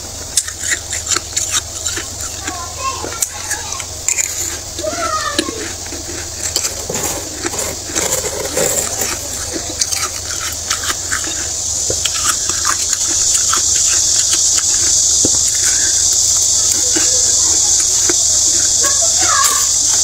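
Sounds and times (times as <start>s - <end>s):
frost crunching and crackling: 0.0s - 20.0s
steady hiss: 0.0s - 20.0s.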